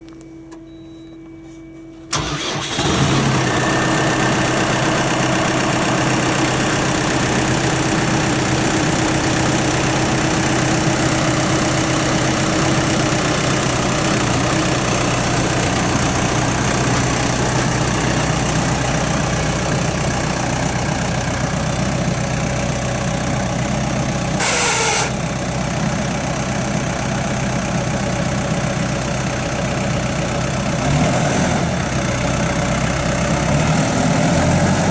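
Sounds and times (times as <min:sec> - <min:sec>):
tractor diesel engine idling: 0:02.1 - 0:31.0, 0:31.6 - 0:34.9.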